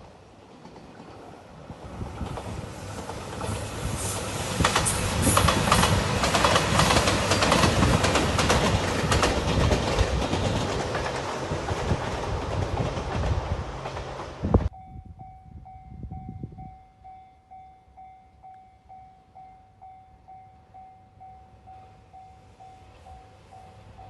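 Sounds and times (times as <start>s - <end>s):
diesel train passing: 0.0s - 24.0s.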